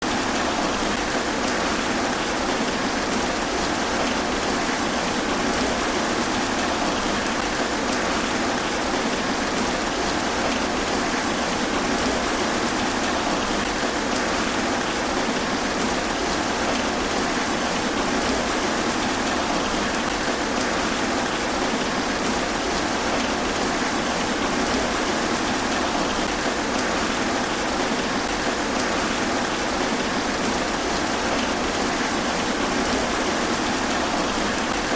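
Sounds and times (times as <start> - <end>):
rain pattering on leaves: 0.0 - 34.9.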